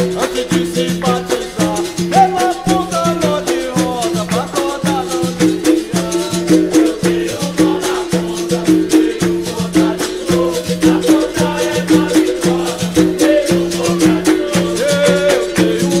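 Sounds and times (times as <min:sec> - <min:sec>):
hand claps: 0:00.0 - 0:08.2, 0:08.8 - 0:16.0
group singing: 0:00.0 - 0:16.0
hand drum: 0:00.0 - 0:16.0.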